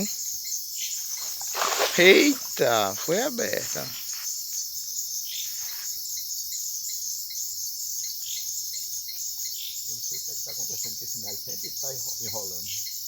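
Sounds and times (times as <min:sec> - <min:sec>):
cricket chirping: 0:00.0 - 0:13.0
insects shrill hiss: 0:00.0 - 0:13.0.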